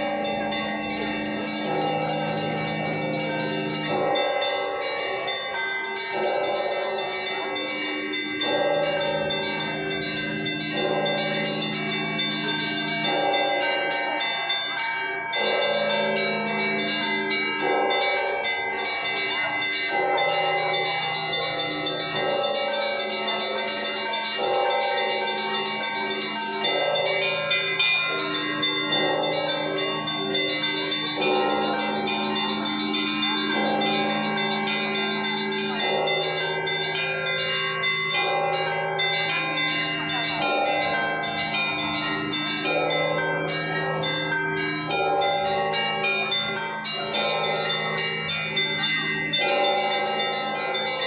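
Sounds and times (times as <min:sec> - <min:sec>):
deep church bell: 0:00.0 - 0:51.0
small high bells ringing: 0:00.0 - 0:51.0.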